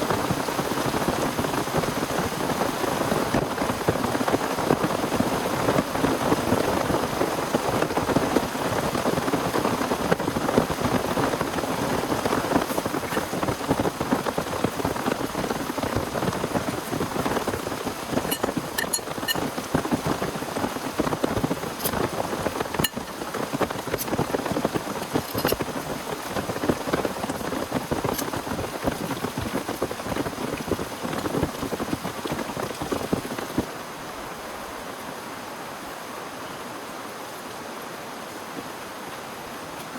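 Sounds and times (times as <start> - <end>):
heavy rain on a surface: 0.0 - 39.9.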